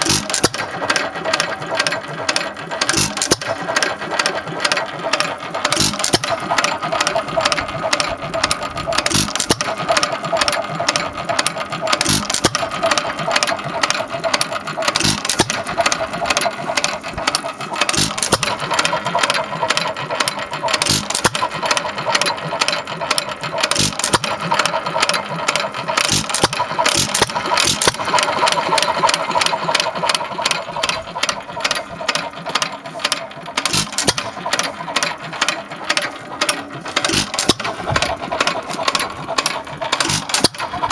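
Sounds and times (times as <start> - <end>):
stationary engine clicking: 0.0 - 40.9.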